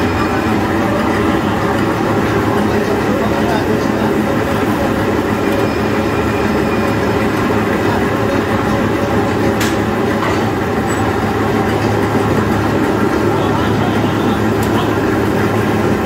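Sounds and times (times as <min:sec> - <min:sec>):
machine brushes running with hum: 0:00.0 - 0:16.0.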